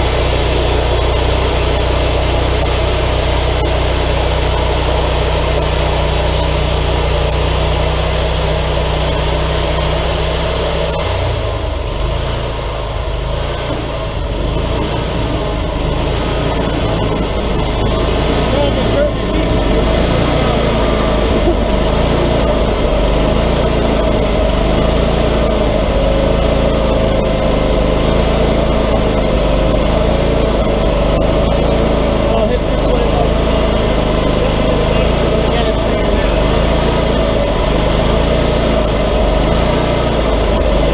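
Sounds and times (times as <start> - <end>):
sawmill engine running: 0.0 - 40.9
steady whine: 0.0 - 40.9.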